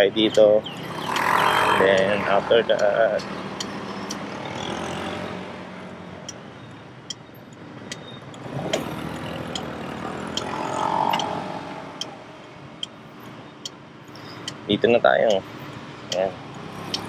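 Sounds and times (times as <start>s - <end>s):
motorcycle engine and road noise: 0.0s - 17.0s.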